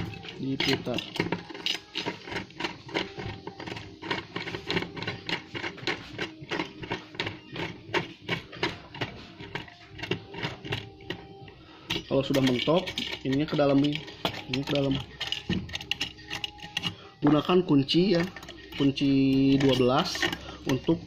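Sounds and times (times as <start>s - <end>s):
faint music: 0.0s - 21.0s
glass and metal clicking: 0.0s - 21.0s.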